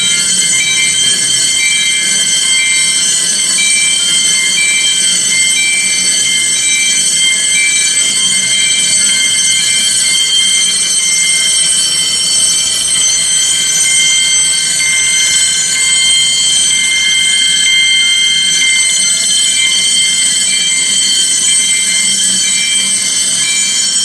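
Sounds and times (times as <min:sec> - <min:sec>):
fire alarm bells ringing: 0:00.0 - 0:24.0.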